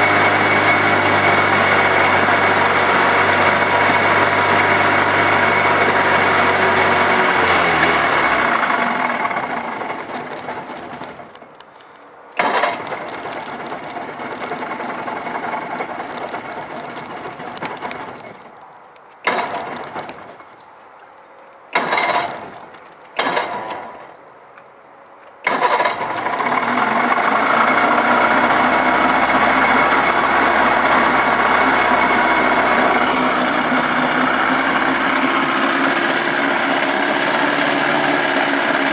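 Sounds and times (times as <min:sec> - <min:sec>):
outboard motor running: 0:00.0 - 0:11.4, 0:12.4 - 0:18.5, 0:19.3 - 0:20.4, 0:25.5 - 0:38.9
outboard motor restarting: 0:00.0 - 0:11.5, 0:12.4 - 0:18.5, 0:19.3 - 0:20.5, 0:21.8 - 0:24.1, 0:25.5 - 0:38.9.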